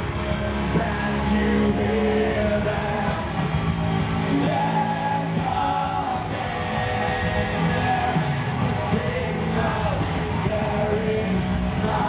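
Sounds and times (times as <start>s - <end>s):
bass guitar: 0.0s - 12.0s
electric guitar: 0.0s - 12.0s
man singing: 0.5s - 3.4s, 4.2s - 12.0s.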